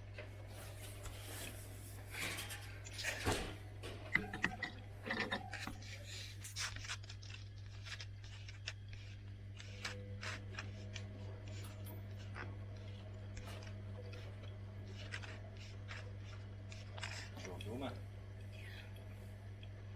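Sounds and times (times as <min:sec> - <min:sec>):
washing machine hum: 0:00.0 - 0:19.9.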